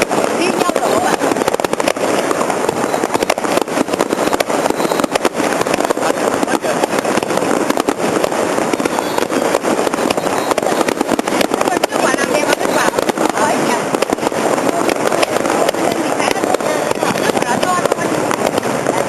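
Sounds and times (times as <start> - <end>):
fireworks popping and cracking: 0.0 - 19.0.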